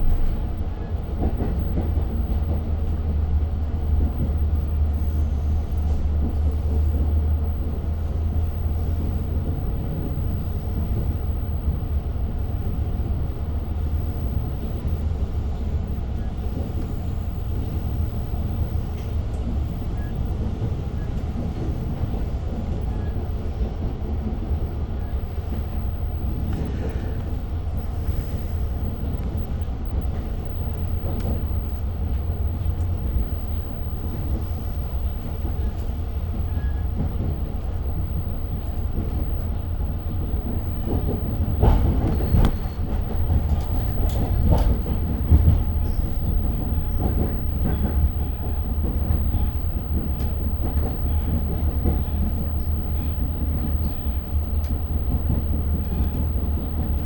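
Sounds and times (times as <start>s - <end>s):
train rumble inside coach: 0.0s - 57.0s.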